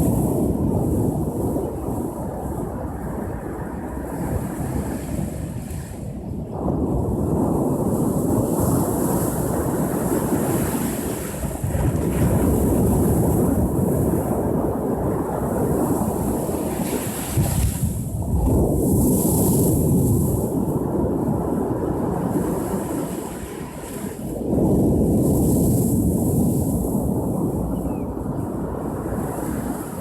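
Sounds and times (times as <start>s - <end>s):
ocean surf washing ashore: 0.0s - 30.0s.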